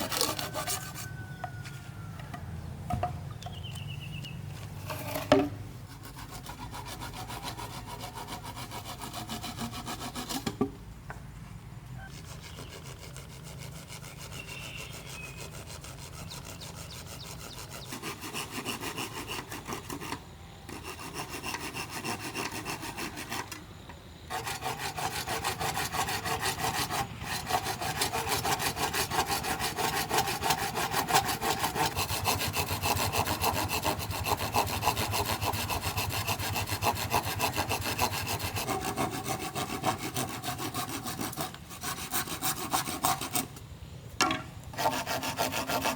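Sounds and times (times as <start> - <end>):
hand saw cutting bamboo: 0.0 - 1.3, 4.8 - 10.6, 12.1 - 23.6, 24.3 - 43.6, 44.7 - 45.9.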